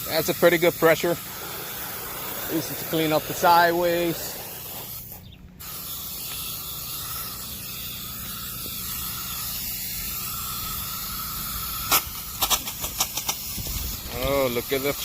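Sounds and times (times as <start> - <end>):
garden hose spraying: 0.0 - 15.0.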